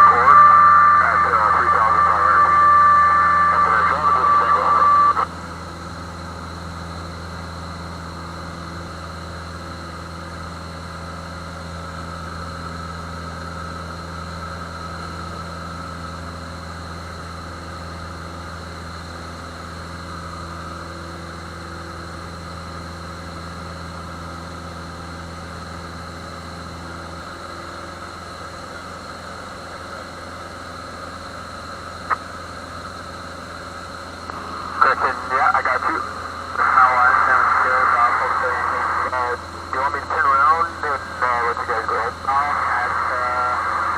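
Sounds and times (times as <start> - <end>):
aircraft engine droning: 0.0 - 43.9.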